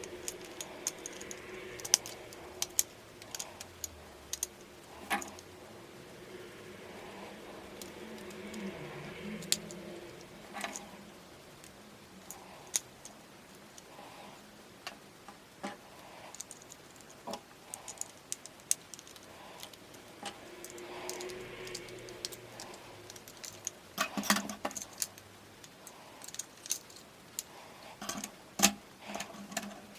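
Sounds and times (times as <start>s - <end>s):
plastic bricks clicking and rattling: 0.0s - 5.5s, 7.6s - 13.9s, 15.6s - 29.8s.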